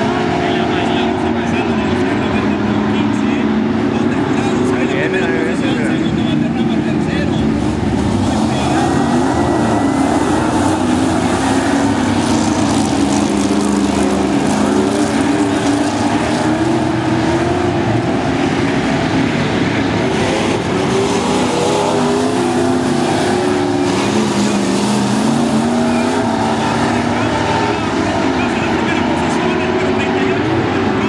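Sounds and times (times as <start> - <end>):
stock car engines racing: 0.0 - 31.0.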